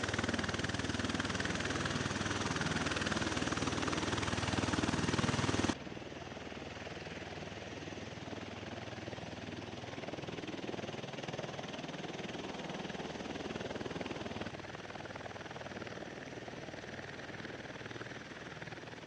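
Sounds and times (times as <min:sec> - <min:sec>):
aircraft engines and rotors running: 0:00.0 - 0:19.0.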